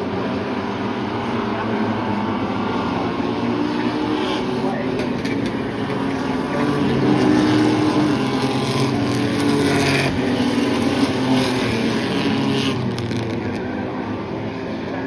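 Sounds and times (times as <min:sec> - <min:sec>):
race truck engines: 0:00.0 - 0:15.0.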